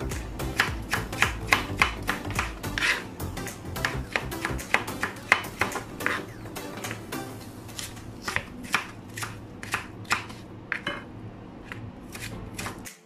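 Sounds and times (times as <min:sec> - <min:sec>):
knife chopping on cutting board: 0:00.0 - 0:07.1, 0:07.7 - 0:11.0, 0:11.6 - 0:13.0.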